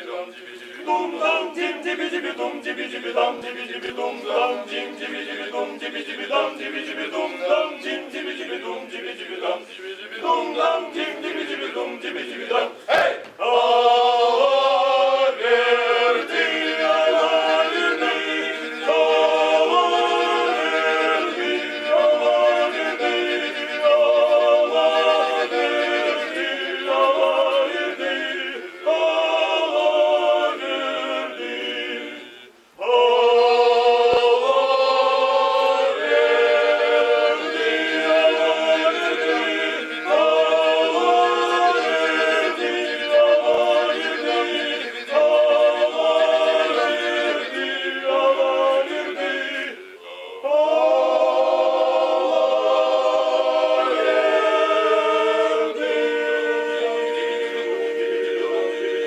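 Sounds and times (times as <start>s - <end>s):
male choir singing a cappella: 0.0s - 59.0s.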